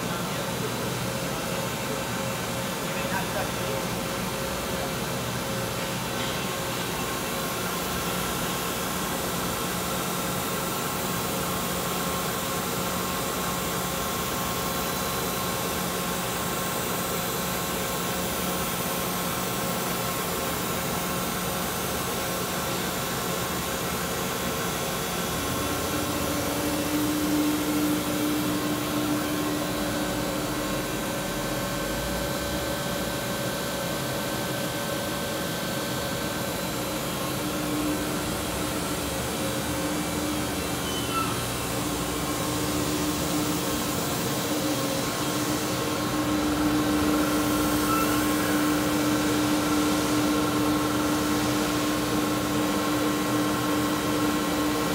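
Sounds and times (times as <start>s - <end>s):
boring mill hum and whir: 0.0s - 54.9s.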